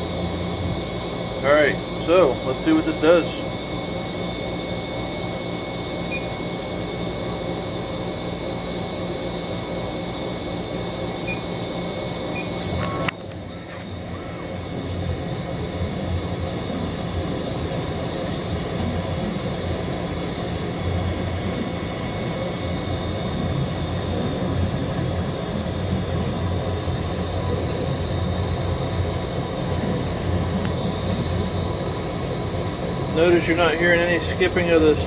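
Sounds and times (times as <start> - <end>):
air assist hum: 0.0 - 35.0
laser cutter stepper motors: 0.0 - 35.0.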